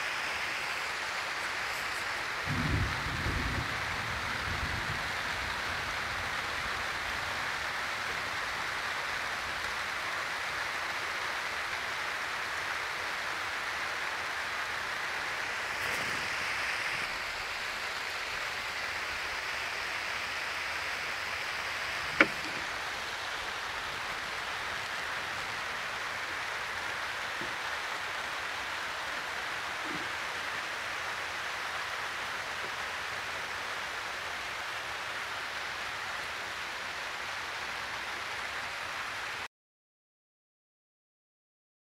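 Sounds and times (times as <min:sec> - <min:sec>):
steady outdoor hiss: 0:00.0 - 0:39.5.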